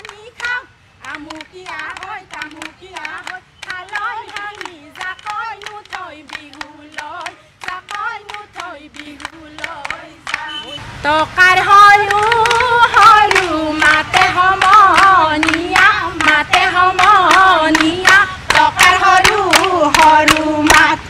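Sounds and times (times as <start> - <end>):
rhythmic clapping: 0.0 - 10.7, 11.5 - 21.0
women singing together: 0.0 - 21.0.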